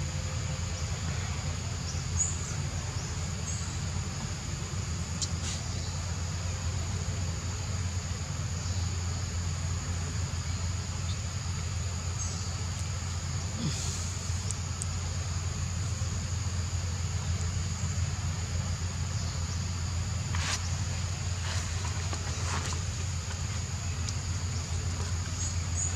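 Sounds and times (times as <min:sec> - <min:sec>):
high drone of insects: 0:00.0 - 0:25.9.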